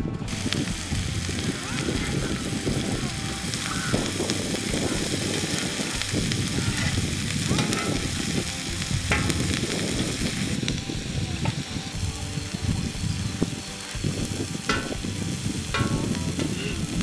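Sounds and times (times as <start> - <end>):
ladle scraping griddle: 0.2 - 17.0
vegetables sizzling in oil: 0.3 - 17.0.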